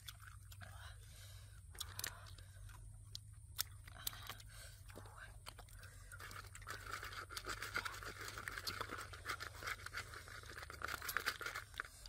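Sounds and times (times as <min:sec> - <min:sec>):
food being torn and chewed: 0:01.7 - 0:12.0.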